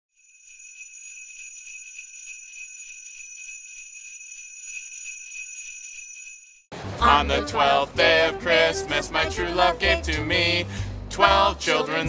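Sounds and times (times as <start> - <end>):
sleigh bells shaking: 0.2 - 10.6.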